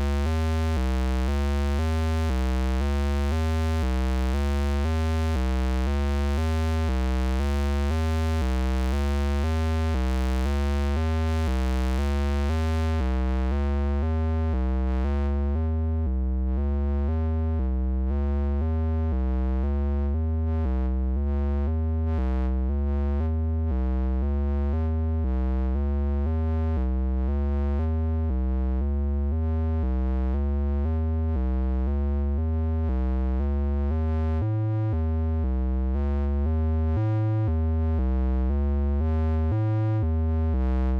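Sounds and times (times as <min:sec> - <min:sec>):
deep bass: 0:00.0 - 0:40.9.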